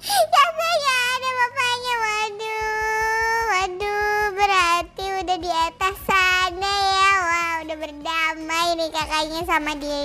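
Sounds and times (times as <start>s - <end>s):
high-pitched voice singing: 0.1s - 10.0s.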